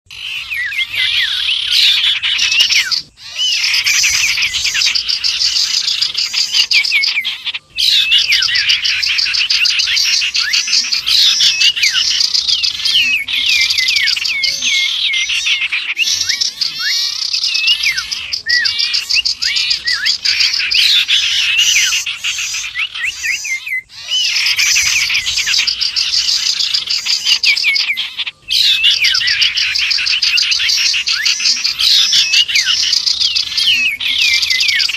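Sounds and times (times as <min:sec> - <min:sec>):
small birds chirping and trilling: 0:00.1 - 0:34.9.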